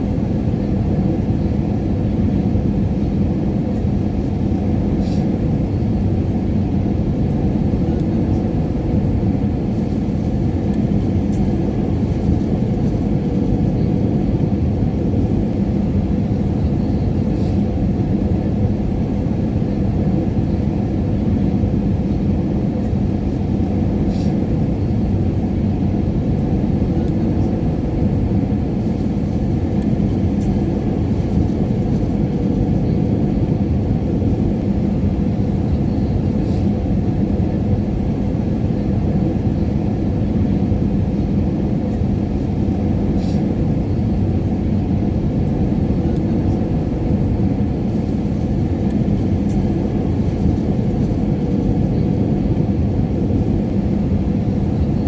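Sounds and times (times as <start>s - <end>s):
airliner cabin engine rumble: 0.0s - 55.0s
faint constant hum: 0.0s - 55.0s.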